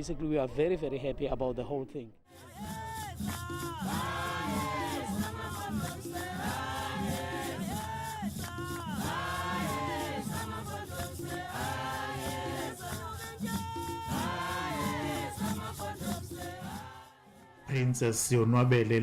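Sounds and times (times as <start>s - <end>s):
choir singing over a beat: 2.3s - 19.0s.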